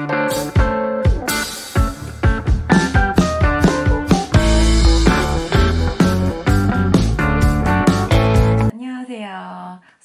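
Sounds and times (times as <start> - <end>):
drums: 0.0 - 8.7
plucked guitar-like notes: 0.0 - 8.7.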